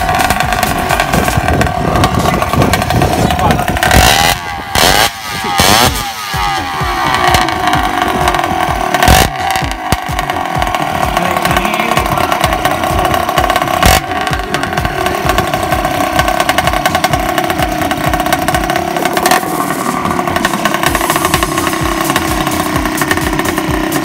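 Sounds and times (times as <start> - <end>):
sharp cracks: 0.0 - 24.0
two-stroke engine fast idle: 0.0 - 24.0.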